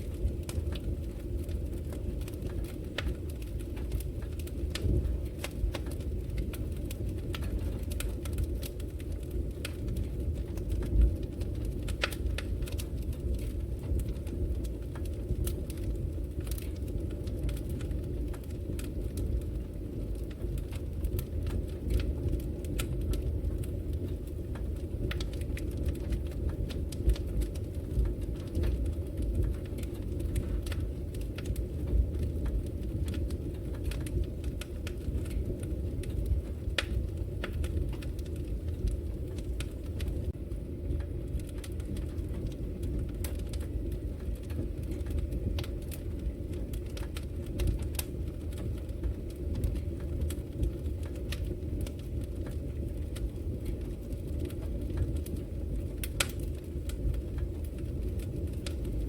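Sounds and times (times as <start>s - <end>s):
fire crackling in fireplace: 0.0s - 59.0s.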